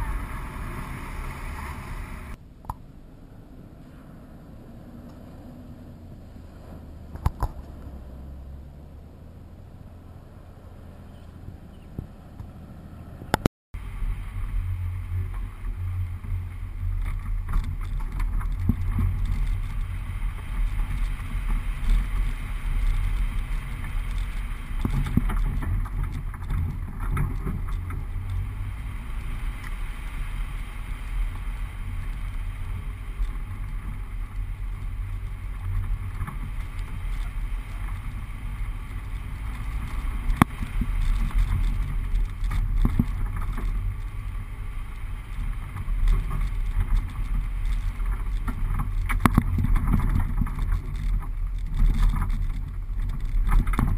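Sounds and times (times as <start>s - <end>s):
vehicle engine rumble: 0.0s - 53.9s.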